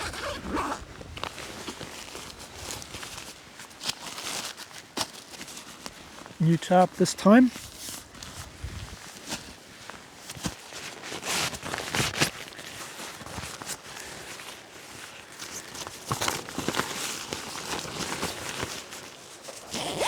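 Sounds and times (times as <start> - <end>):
camping gear rustling and crackling: 0.0 - 6.4, 7.5 - 20.0.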